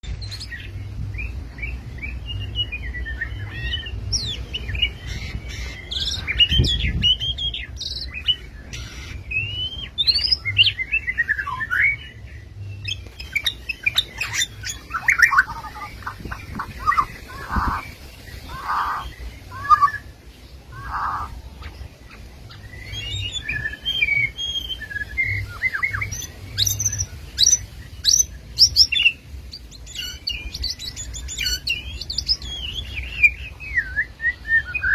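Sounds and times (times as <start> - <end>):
bird singing varied song: 0.0 - 34.9.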